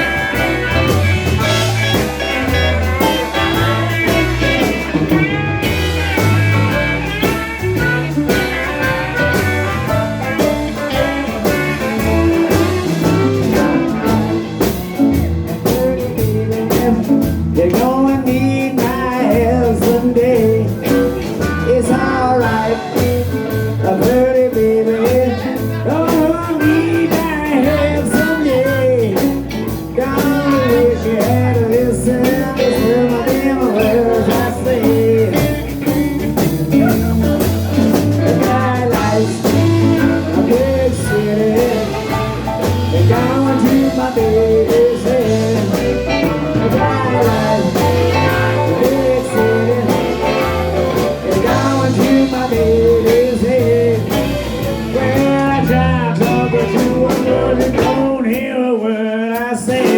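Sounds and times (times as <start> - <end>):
bending electric guitar lead: 0.0 - 58.3
walking bass line: 0.0 - 58.7
steady drums: 0.0 - 59.9.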